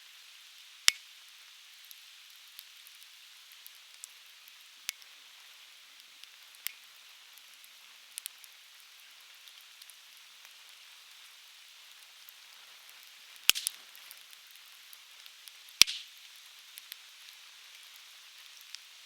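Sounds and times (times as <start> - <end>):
firewood burning and crackling: 0.4 - 19.0.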